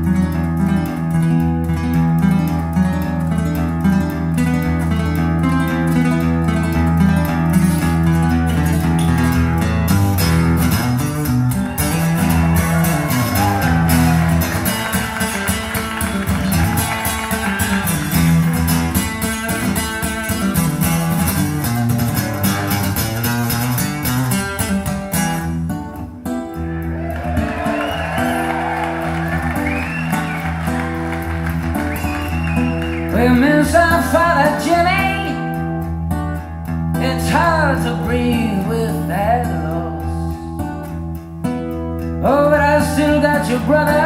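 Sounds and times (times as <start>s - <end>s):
plucked guitar: 0.0s - 44.0s.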